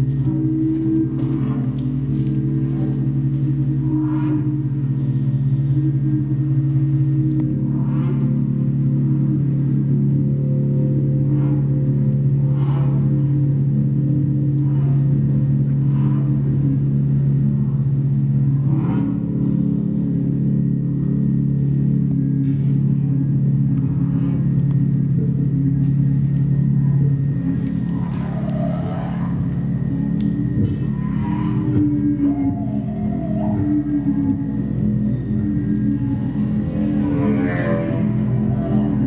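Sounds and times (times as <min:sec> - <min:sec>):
low drone of held tones: 0:00.0 - 0:39.0.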